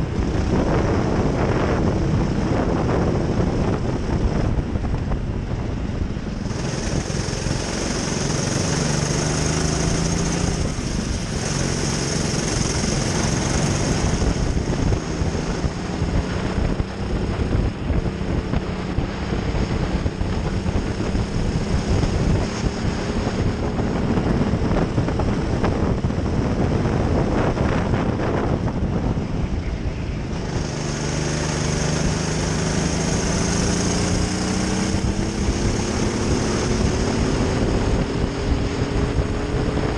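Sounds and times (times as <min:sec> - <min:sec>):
kart engine accelerating: 0:00.0 - 0:39.9.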